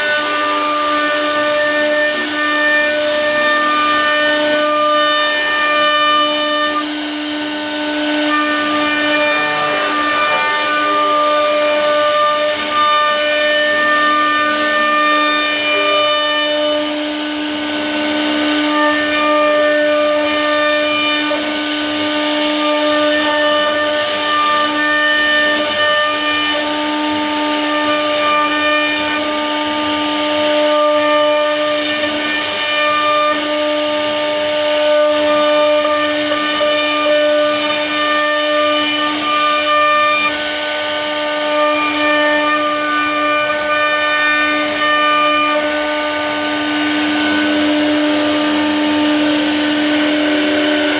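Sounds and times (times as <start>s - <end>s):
router spindle high-pitched whine: 0.0s - 50.9s.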